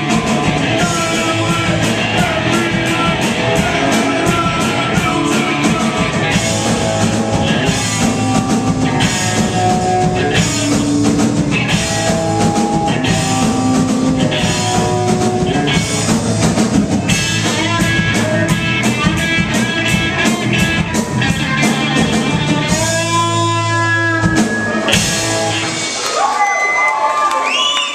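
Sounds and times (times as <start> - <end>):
live rock band playing: 0.0 - 27.2.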